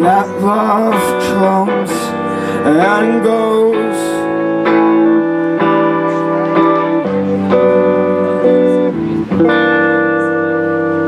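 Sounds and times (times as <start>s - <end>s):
electric guitar chords: 0.0s - 11.0s
live band playing: 0.0s - 11.0s.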